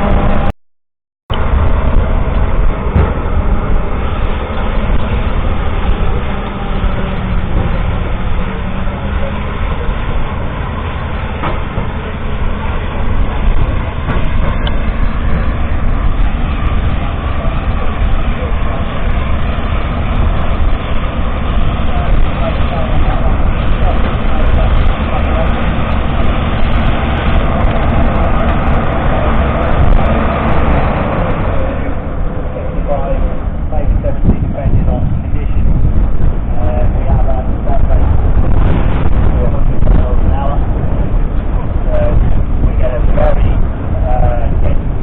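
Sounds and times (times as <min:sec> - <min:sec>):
tractor and baler machinery rumbling: 0:00.0 - 0:00.5, 0:01.3 - 0:45.0.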